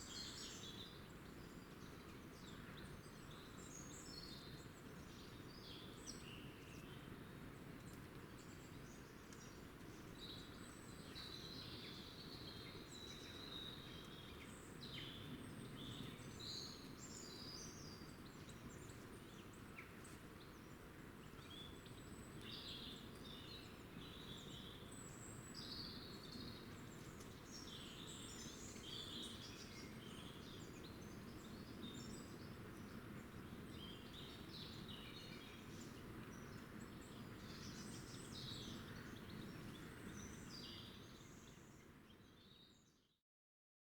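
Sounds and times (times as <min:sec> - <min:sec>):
faint outdoor background noise: 0:00.0 - 0:43.2.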